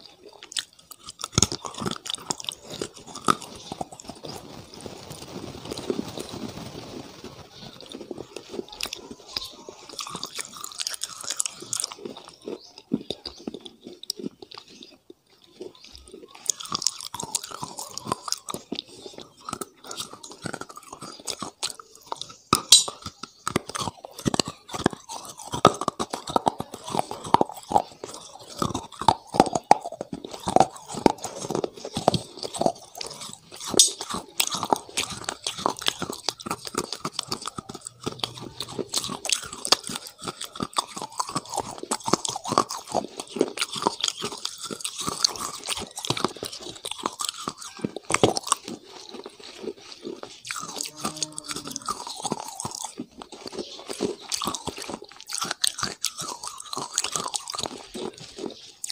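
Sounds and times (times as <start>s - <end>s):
person chewing crunchy food: 0.0s - 58.9s.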